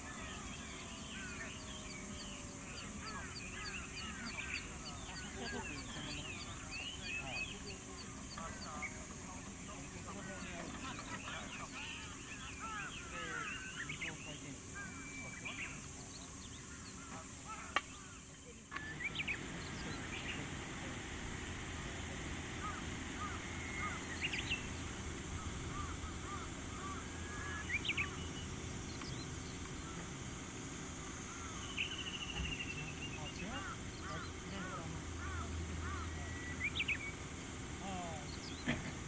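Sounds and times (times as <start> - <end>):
birds chirping and calling: 0.0 - 39.0
high insect drone: 0.0 - 39.0.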